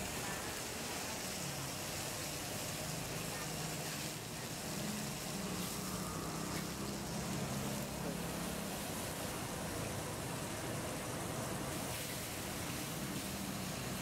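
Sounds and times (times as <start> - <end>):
steaks sizzling on griddle: 0.0 - 10.6, 11.6 - 14.0
low engine-like hum: 1.2 - 14.0.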